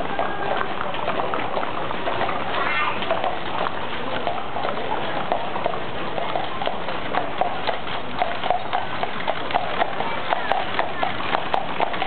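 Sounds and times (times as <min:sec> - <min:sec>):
horse hooves clip-clopping on asphalt: 0:00.0 - 0:12.0.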